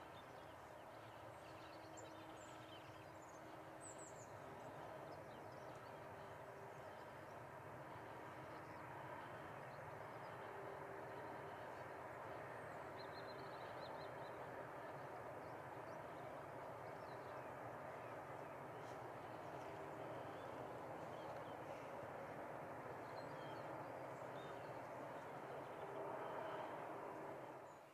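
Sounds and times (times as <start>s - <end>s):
distant freight train rumble: 0.6s - 27.8s.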